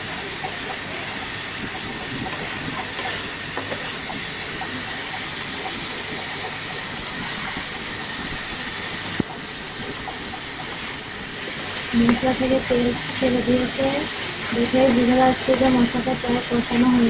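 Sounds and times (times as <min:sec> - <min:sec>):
masala sizzling in oil: 0:00.0 - 0:17.0.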